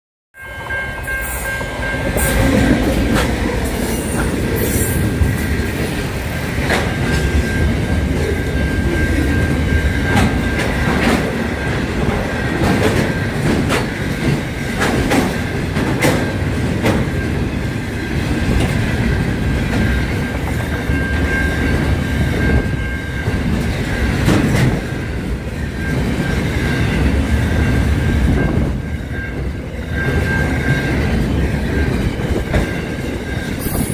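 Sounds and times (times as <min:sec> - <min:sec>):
freight train rumbling: 0:00.4 - 0:33.9
wheels clacking on rail joints: 0:01.0 - 0:33.9.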